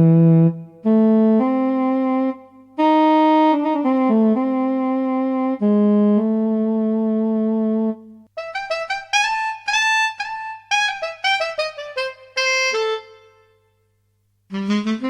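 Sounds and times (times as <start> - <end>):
solo saxophone playing: 0.0 - 13.7, 14.5 - 15.0.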